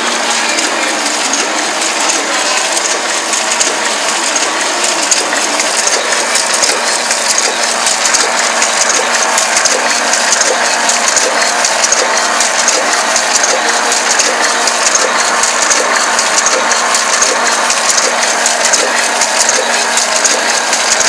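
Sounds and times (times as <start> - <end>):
machine hum: 0.0 - 21.0
printing press clattering: 0.0 - 21.0
rapid fine clicks: 0.0 - 21.0.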